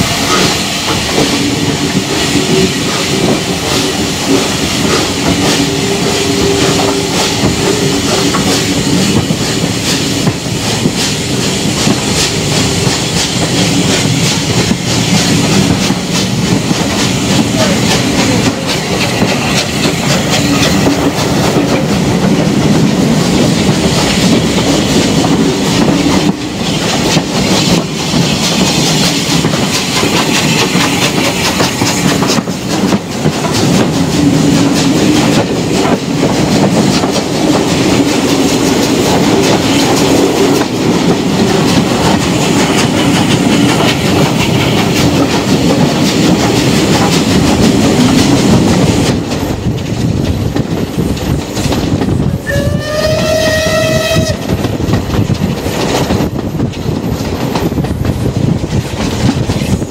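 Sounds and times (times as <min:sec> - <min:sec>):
train rolling rumble: 0:00.0 - 0:59.9
wheels clicking over rail joints: 0:00.0 - 0:59.9.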